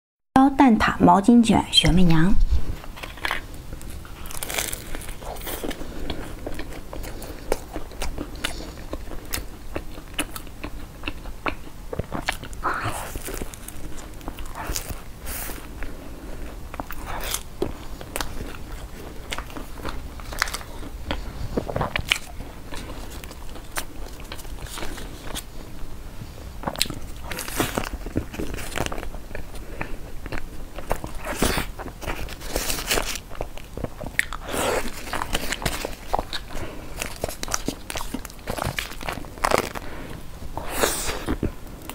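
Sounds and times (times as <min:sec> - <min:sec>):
biting and chewing pastry: 0:02.8 - 0:25.8, 0:26.6 - 0:41.9.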